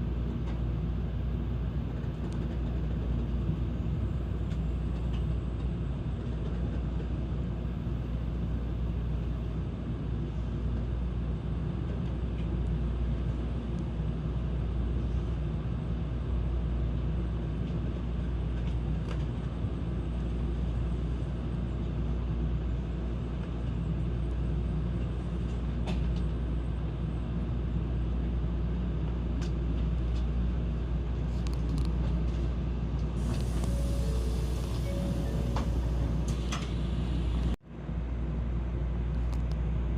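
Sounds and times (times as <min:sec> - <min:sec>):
train running rumble: 0:00.0 - 0:37.6.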